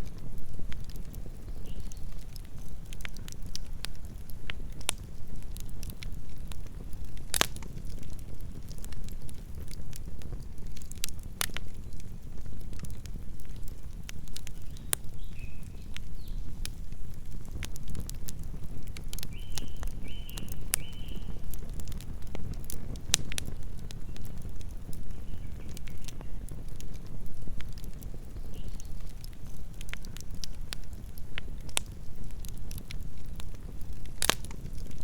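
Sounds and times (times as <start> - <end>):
burning wood crackling and popping: 0.0 - 35.0
low rumble of flames: 0.0 - 35.0.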